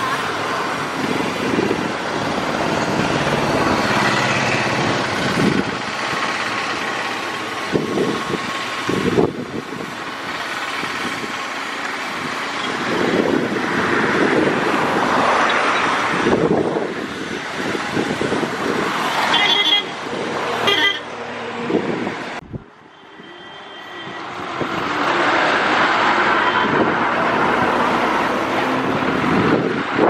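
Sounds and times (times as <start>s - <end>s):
vehicle engine and road noise: 0.0s - 30.0s
vehicles passing: 0.0s - 30.0s.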